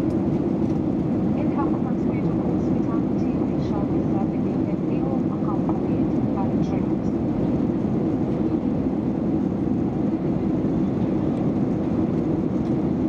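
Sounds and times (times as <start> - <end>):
aircraft cabin noise: 0.0 - 13.0.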